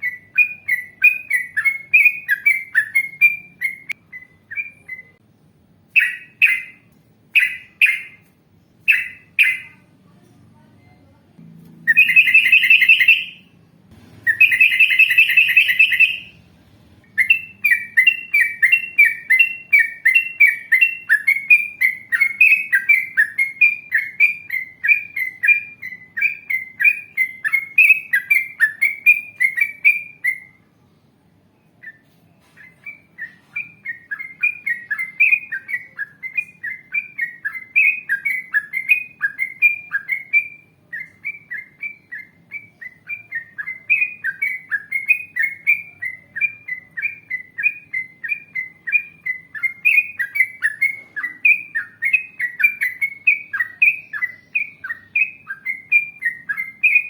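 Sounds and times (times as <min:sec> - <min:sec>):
bird singing: 0:00.0 - 0:05.2, 0:05.9 - 0:09.9, 0:11.8 - 0:30.7, 0:31.6 - 0:57.0.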